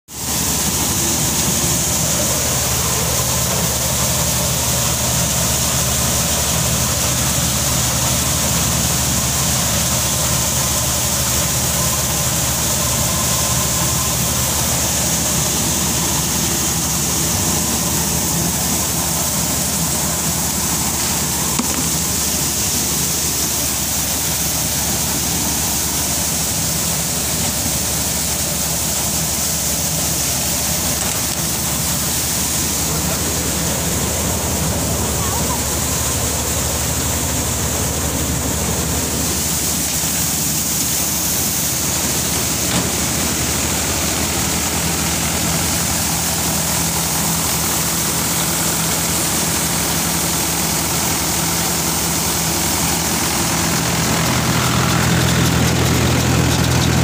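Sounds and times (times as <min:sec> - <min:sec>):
grain streaming out of chute: 0:00.2 - 0:57.0
threshing machine droning: 0:00.2 - 0:57.0.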